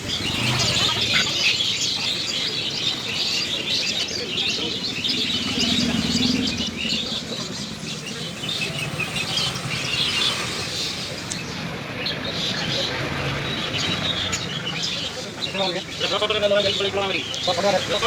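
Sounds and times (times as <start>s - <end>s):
low indistinct voices: 0.0s - 18.0s
small birds chirping: 0.0s - 18.0s.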